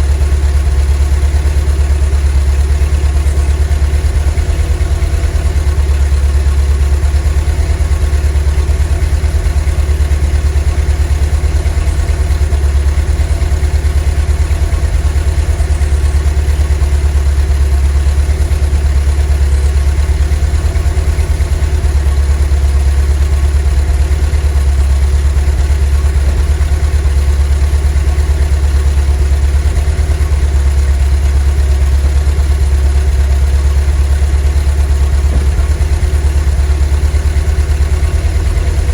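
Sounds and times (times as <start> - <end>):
van engine idling: 0.0 - 38.9.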